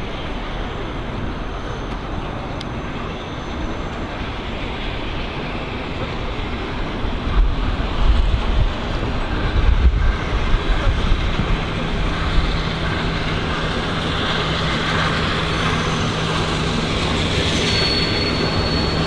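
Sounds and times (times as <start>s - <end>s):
wind buffeting microphone: 0.0s - 17.6s
steam locomotive and rail noise: 0.0s - 19.0s.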